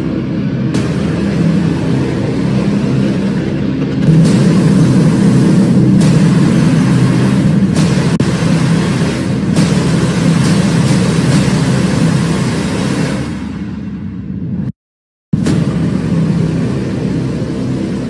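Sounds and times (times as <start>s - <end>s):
low engine-like rumble: 0.0s - 14.7s, 15.4s - 18.0s.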